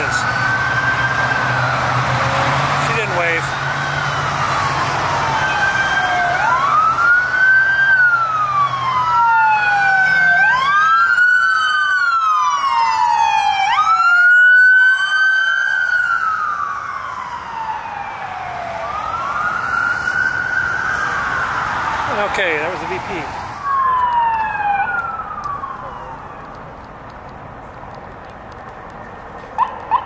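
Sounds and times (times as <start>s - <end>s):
police sirens wailing: 0.0s - 30.0s.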